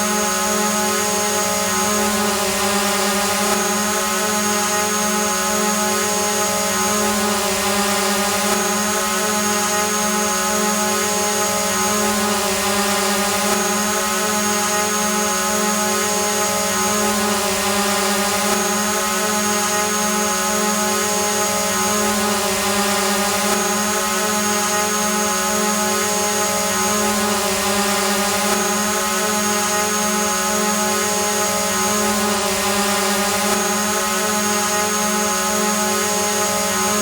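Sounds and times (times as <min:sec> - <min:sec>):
drone hovering buzzing whine: 0:00.0 - 0:37.0.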